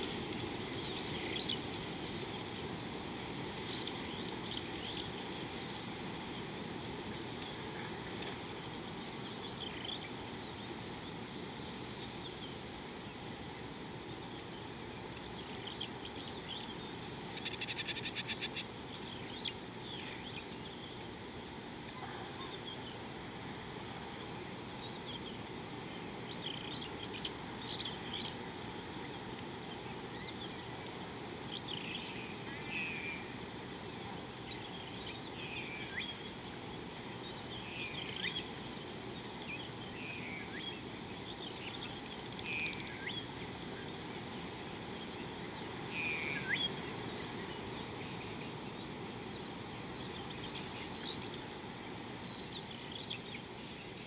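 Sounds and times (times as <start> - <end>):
birds chirping: 0.0 - 54.0
outdoor background hiss: 0.0 - 54.0.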